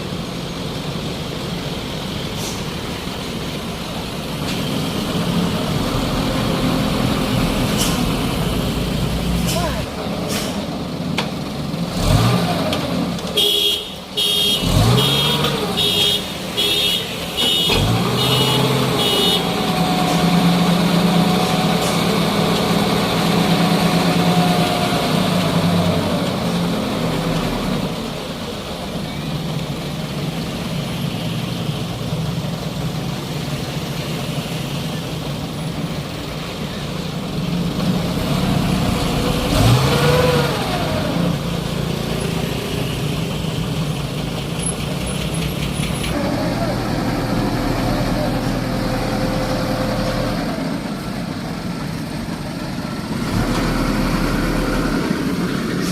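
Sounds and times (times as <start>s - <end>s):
heavy vehicle engine running: 0.0s - 55.9s.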